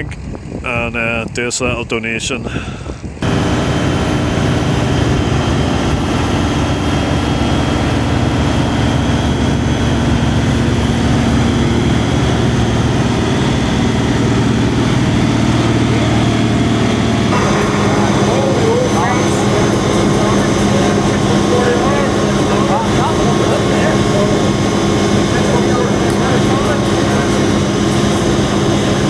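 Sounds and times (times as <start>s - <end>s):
tractor diesel engine under load: 2.4s - 29.0s.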